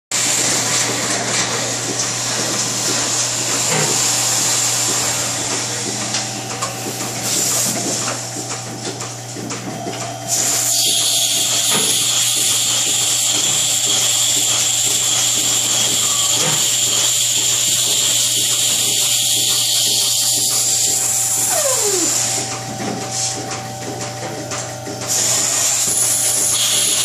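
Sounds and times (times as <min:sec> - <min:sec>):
milking machine hissing: 0:00.2 - 0:27.0.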